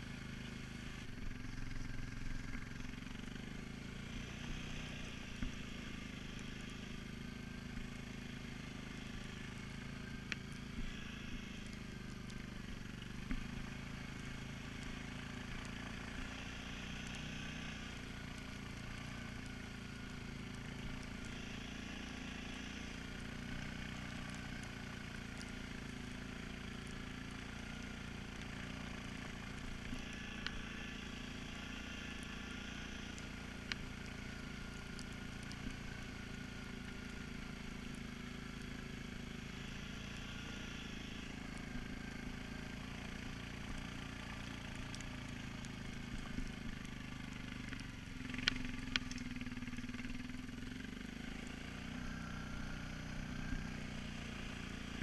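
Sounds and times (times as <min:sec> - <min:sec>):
atv engine cruising: 0:00.0 - 0:55.0
hum of snow tracks: 0:00.0 - 0:55.0.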